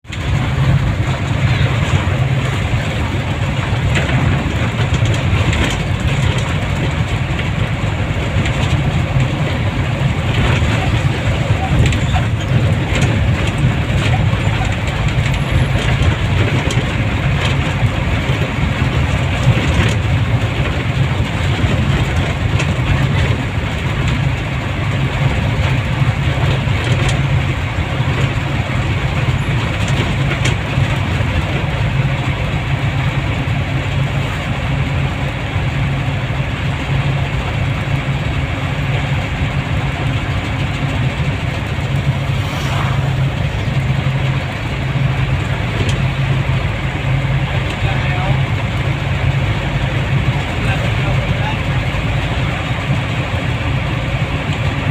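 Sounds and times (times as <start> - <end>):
vehicle engine and road noise: 0.0 - 54.9.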